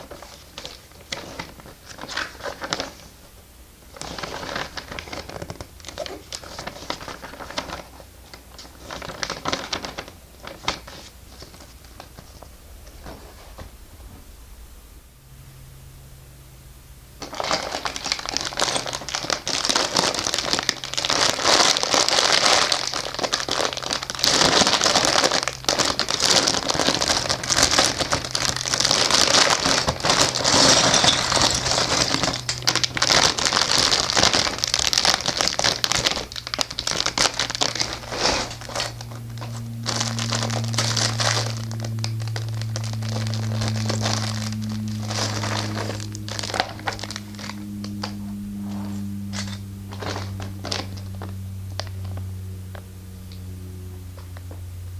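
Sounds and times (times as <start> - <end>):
plastic bags crinkling: 0.0 - 3.2, 3.9 - 13.6, 17.2 - 52.8
low steady hum: 0.0 - 54.9.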